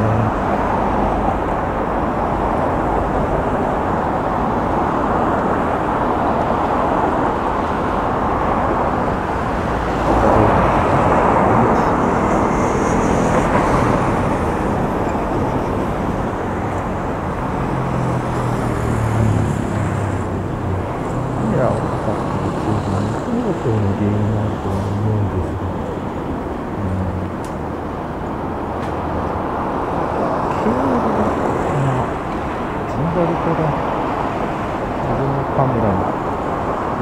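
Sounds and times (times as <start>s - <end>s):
low engine hum: 0.0s - 37.0s
road traffic hum: 0.0s - 37.0s.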